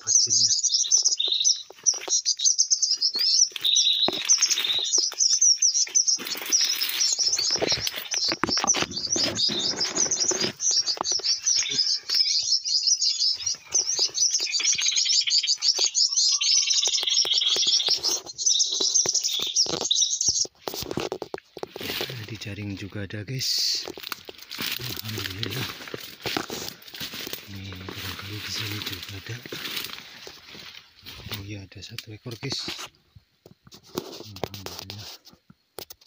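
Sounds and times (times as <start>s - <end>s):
small birds twittering: 0.0s - 32.9s
leaves and branches rustling: 0.8s - 16.1s, 17.0s - 33.0s.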